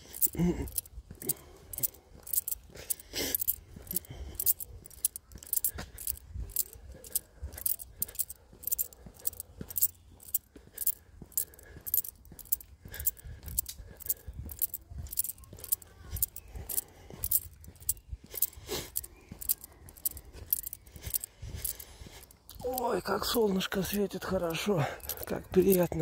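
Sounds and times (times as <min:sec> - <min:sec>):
footsteps on dirt path: 0:00.0 - 0:26.0.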